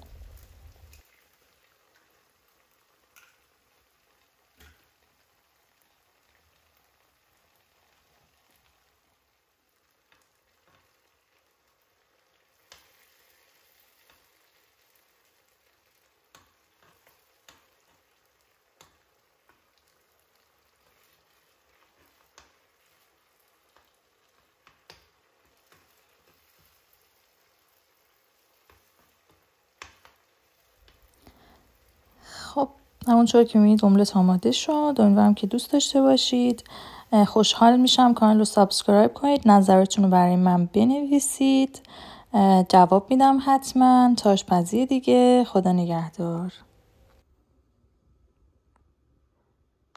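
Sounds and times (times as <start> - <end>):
eggs sizzling in a frying pan: 0.0 - 47.3.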